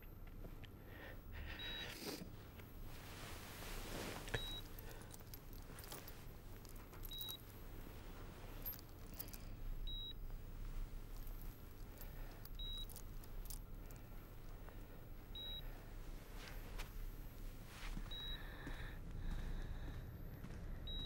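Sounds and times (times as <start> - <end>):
low steady hum: 0.0 - 21.0
patient monitor beeping: 1.3 - 21.0.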